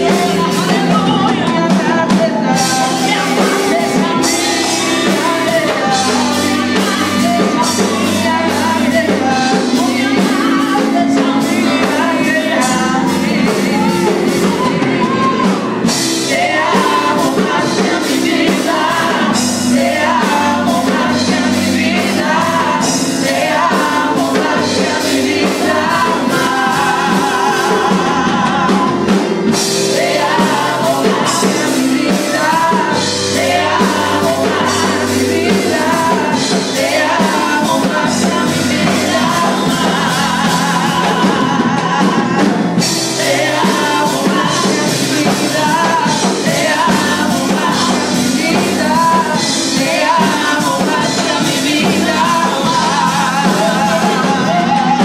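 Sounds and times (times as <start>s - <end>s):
drum kit and cymbals: 0.0s - 55.0s
woman singing into a microphone: 0.0s - 55.0s.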